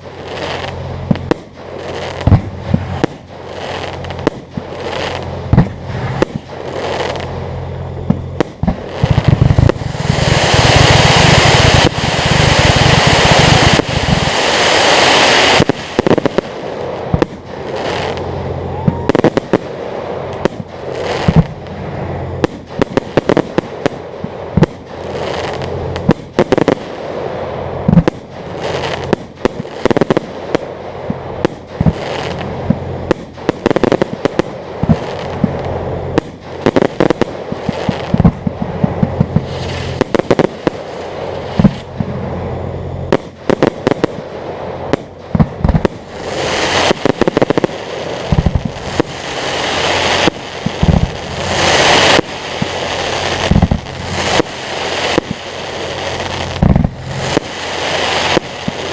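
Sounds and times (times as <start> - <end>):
fireworks bangs and booms: 0.0 - 58.9.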